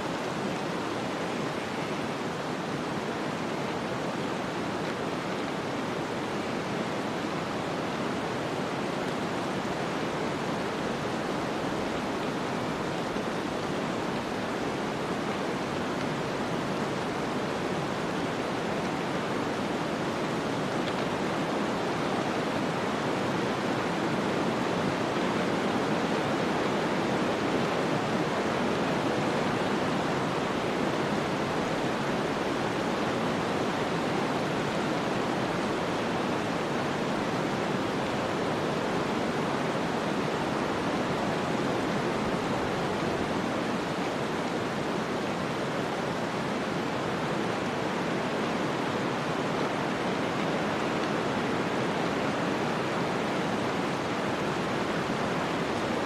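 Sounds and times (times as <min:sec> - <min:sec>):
wind-driven snowstorm noise: 0:00.0 - 0:56.0.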